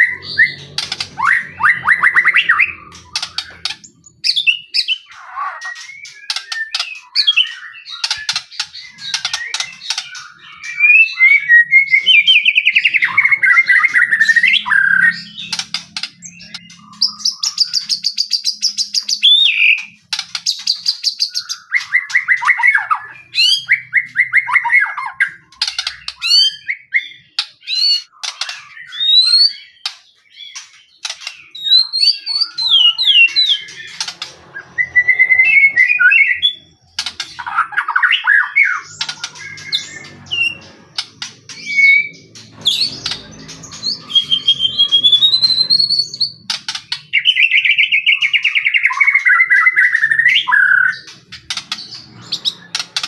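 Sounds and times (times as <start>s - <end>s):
bird singing varied trills: 0.0s - 53.0s.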